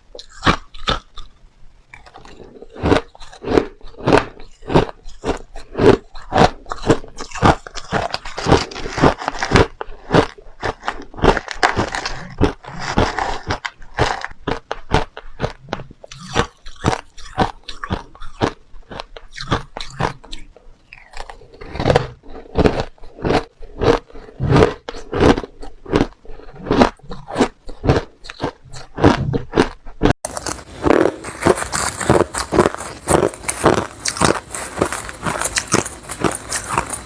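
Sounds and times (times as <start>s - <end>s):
chewing crushed ice: 0.1s - 37.0s.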